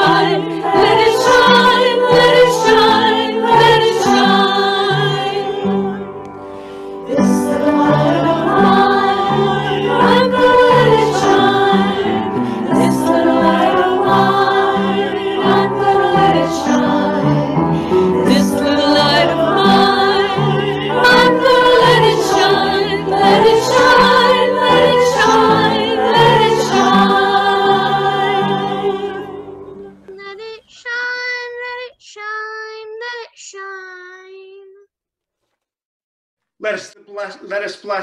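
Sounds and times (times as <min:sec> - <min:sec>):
voices singing: 0:00.0 - 0:06.1, 0:07.1 - 0:34.5.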